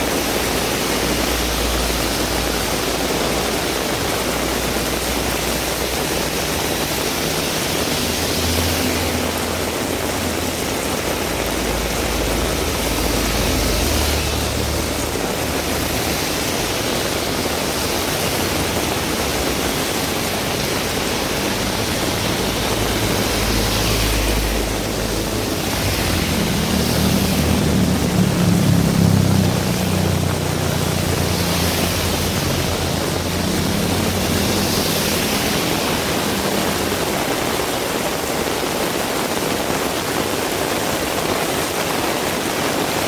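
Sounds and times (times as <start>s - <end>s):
heavy rain hissing: 0.0s - 43.0s
passing vehicles rumbling: 0.0s - 43.0s.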